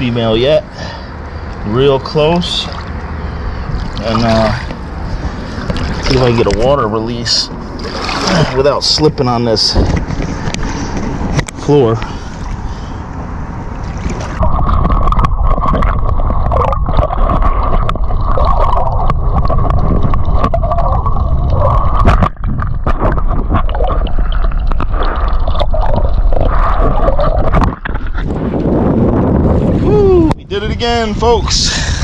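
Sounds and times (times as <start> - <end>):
muffled water sloshing underwater: 0.0 - 30.0.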